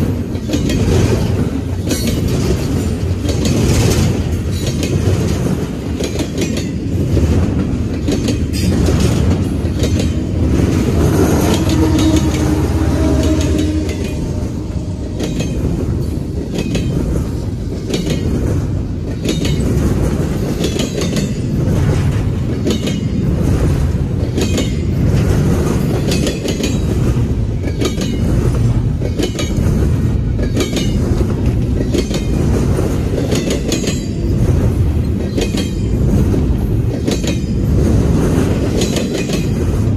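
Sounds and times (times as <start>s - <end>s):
train cars rolling past: 0.0s - 39.9s.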